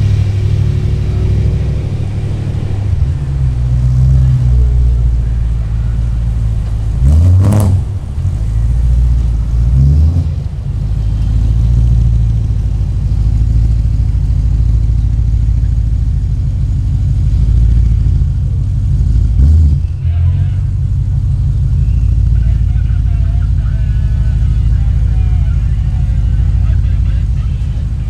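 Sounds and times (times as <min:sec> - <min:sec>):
engine revving: 0:00.0 - 0:28.0
sports car engines idling: 0:00.0 - 0:28.0.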